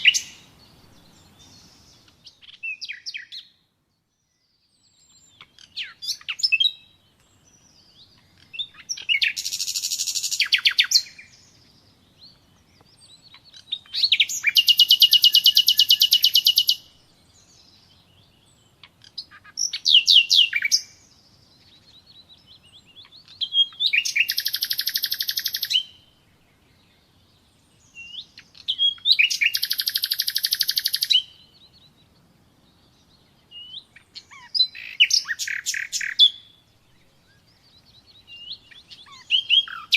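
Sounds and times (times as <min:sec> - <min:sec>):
songbird singing with trill: 0:00.0 - 0:39.9.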